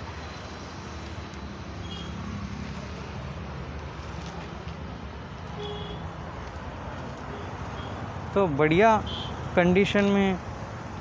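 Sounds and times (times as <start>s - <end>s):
traffic noise with low hum: 0.0s - 11.0s.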